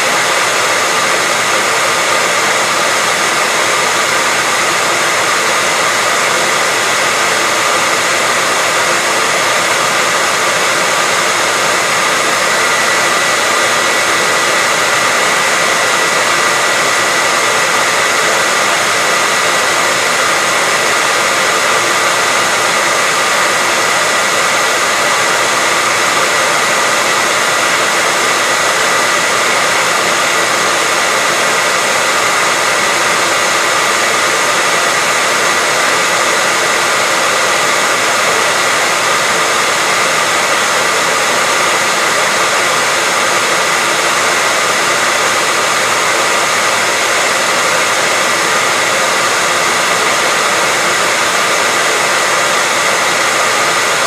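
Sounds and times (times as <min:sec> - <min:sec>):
hair dryer blowing: 0:00.0 - 0:54.0.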